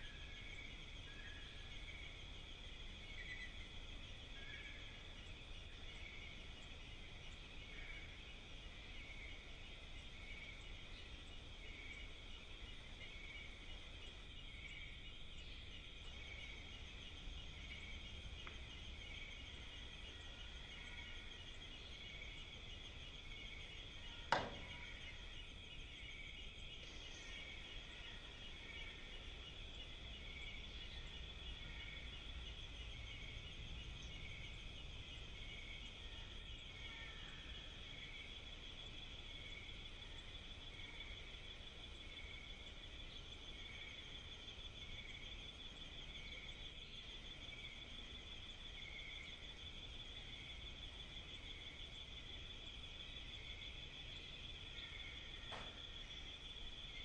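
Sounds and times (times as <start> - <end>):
insects trilling: 0.0 - 57.0
low insect chirp: 0.0 - 57.0.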